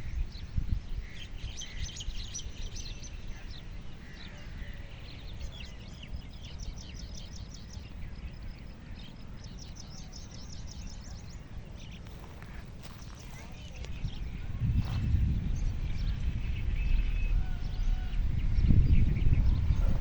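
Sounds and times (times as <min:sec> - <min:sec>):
small birds chirping: 0:00.0 - 0:20.0
steady low rumble: 0:03.0 - 0:20.0.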